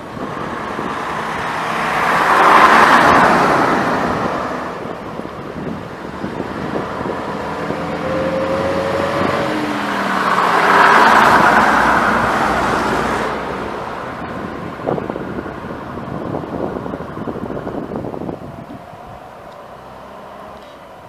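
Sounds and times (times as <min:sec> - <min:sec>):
diesel buses driving past: 0:00.0 - 0:21.0.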